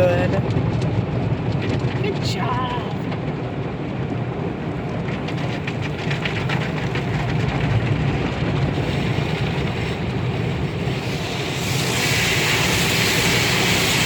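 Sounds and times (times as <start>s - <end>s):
car wash machinery rumble: 0.0s - 14.0s
rapid patter on car body: 0.0s - 14.0s.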